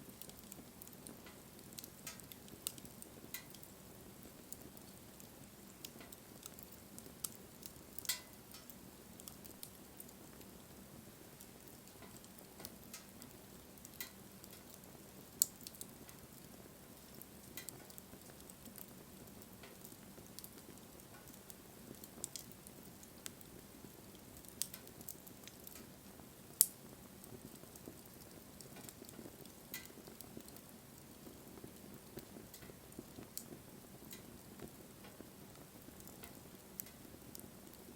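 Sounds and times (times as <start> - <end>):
burning wood popping: 0.0 - 37.9
campfire hissing and crackling: 0.0 - 37.9.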